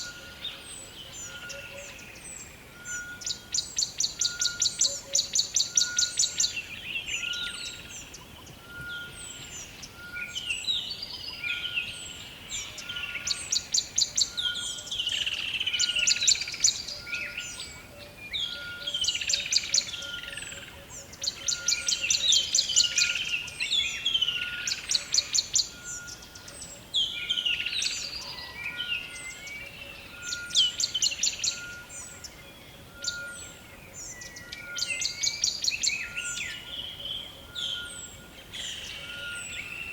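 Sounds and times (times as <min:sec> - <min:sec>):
descending whistled bird calls: 0:00.0 - 0:39.9.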